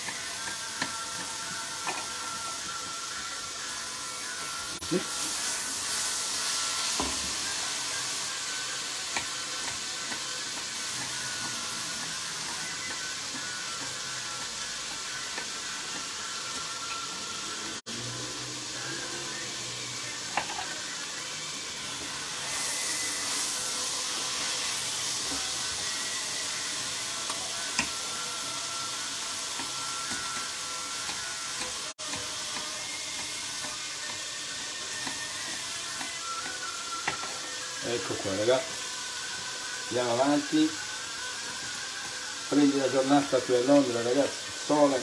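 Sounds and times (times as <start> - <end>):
vegetables sizzling in oil: 0.0 - 45.0.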